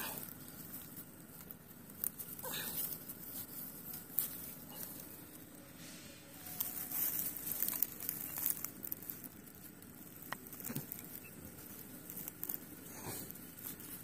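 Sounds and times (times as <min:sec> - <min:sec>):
light rustling and crinkling: 0:00.0 - 0:14.0.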